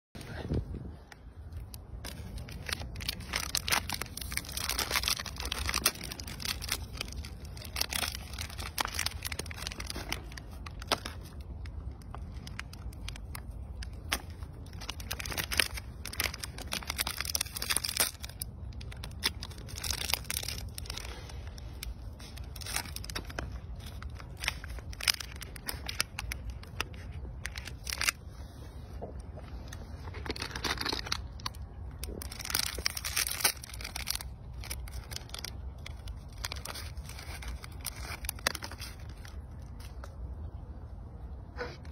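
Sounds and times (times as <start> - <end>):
plastic wrappers crinkling and tearing: 0.2 - 40.5
low steady rumble: 0.2 - 41.9.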